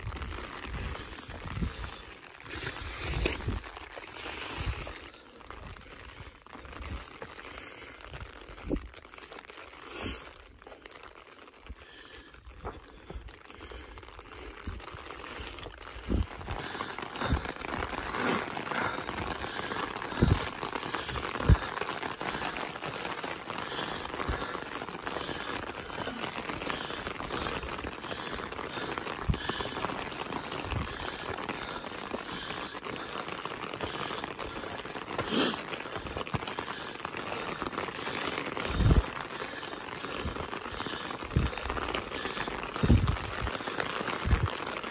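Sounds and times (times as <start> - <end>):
rain hissing: 0.0 - 44.9.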